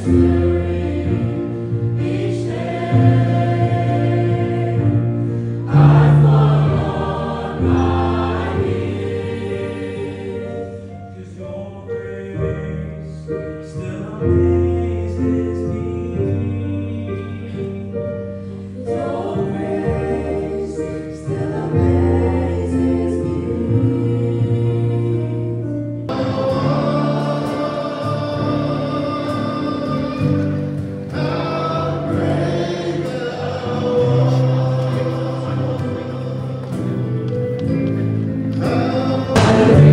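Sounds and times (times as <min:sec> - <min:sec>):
choir singing gospel song: 0:00.0 - 0:39.9.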